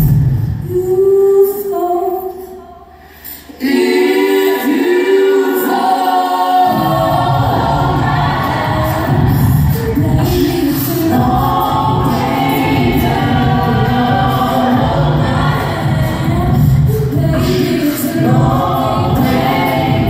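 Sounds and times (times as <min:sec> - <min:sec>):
vocal group singing in harmony: 0:00.0 - 0:20.0.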